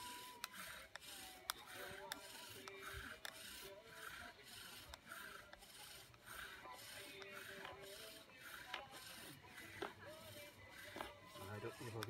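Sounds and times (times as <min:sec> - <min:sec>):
bow drill spindle rasping: 0:00.0 - 0:12.0.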